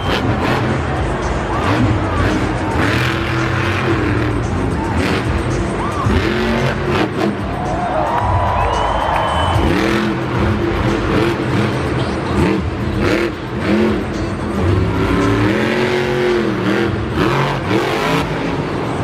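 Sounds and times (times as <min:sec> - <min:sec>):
truck engine revving hard: 0:00.0 - 0:07.7, 0:09.2 - 0:19.0.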